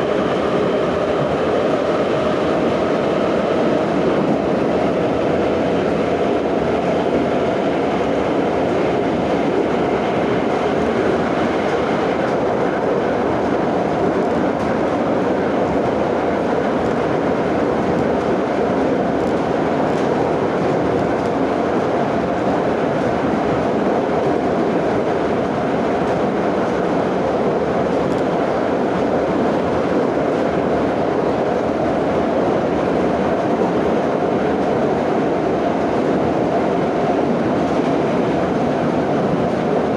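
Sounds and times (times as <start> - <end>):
metro train wheels rumbling: 0.0 - 39.9.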